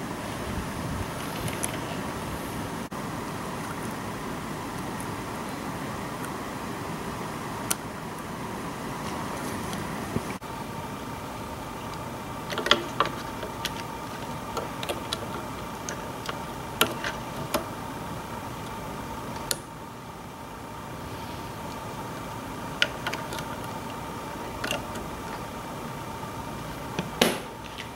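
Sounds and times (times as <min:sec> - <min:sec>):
steady background hum: 0:00.0 - 0:27.9.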